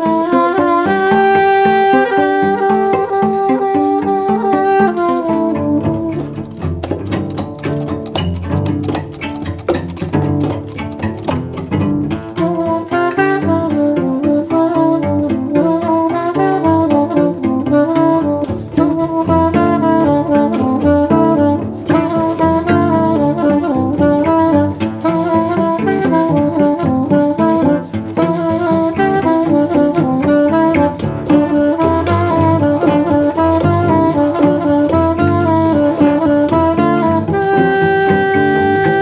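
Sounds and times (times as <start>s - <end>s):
instrumental music with strings: 0.0s - 39.0s.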